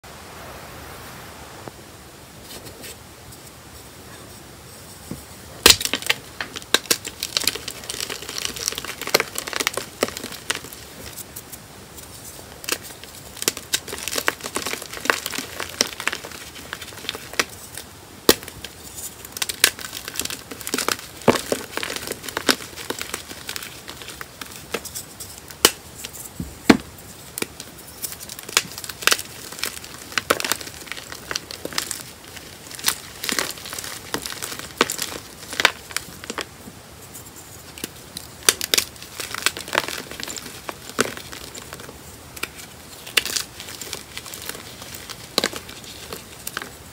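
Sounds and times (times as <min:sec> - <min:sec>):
faint hiss: 0:00.0 - 0:07.8, 0:09.8 - 0:46.9
chalk cracking and crunching: 0:05.6 - 0:46.8.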